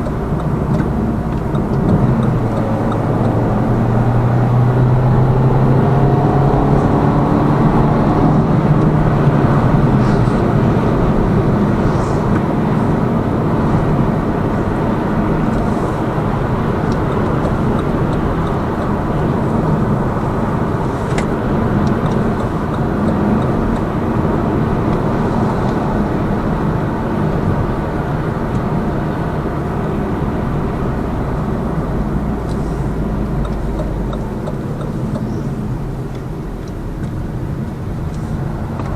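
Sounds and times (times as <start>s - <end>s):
car engine accelerating: 0.0s - 38.9s
tyre noise inside car: 0.0s - 38.9s.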